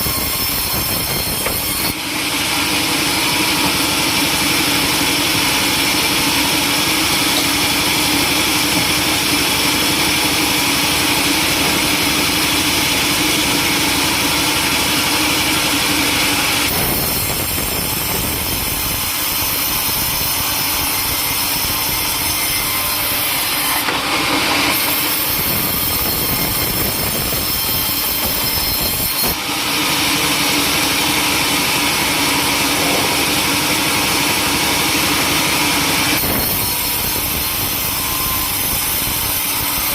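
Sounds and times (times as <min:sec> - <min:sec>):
sawmill saw cutting timber: 0:00.0 - 0:39.9.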